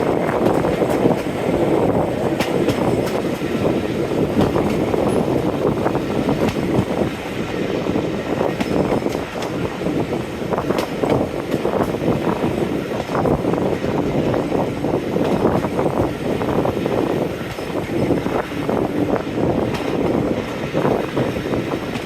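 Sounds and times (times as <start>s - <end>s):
track clicks and clatter: 0.0s - 10.0s, 10.6s - 14.0s, 17.4s - 22.0s
train wheels rumbling on rail: 0.0s - 22.0s.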